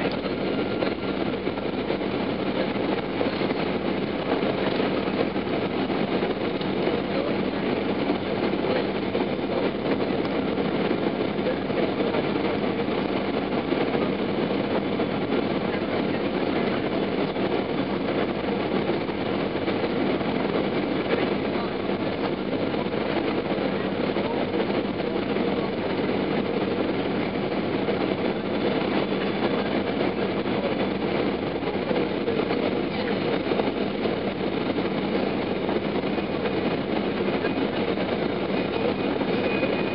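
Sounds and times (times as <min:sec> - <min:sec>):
airplane cabin engine and airflow: 0:00.0 - 0:39.9.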